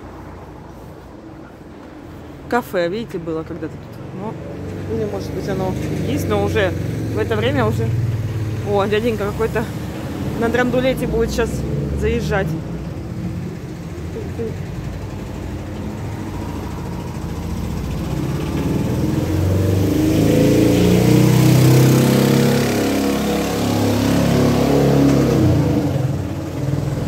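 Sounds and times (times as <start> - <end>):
pickup truck passing by: 4.3 - 27.0.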